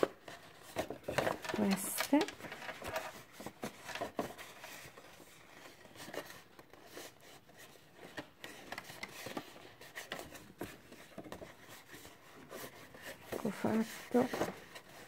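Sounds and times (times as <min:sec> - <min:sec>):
cardstock folding rustle: 0:00.0 - 0:15.0.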